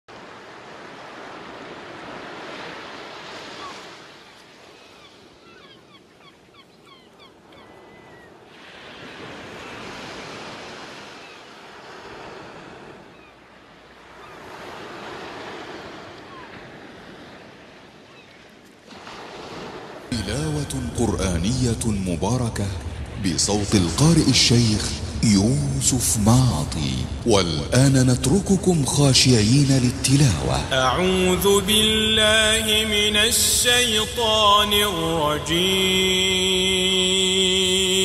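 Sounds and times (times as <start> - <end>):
ocean surf washing ashore: 0.1 - 38.0.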